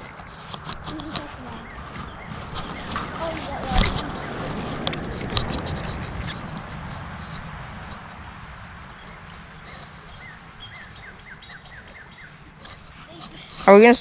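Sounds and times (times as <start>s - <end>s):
small birds chirping: 0.0s - 14.0s
low rumble: 1.2s - 13.1s.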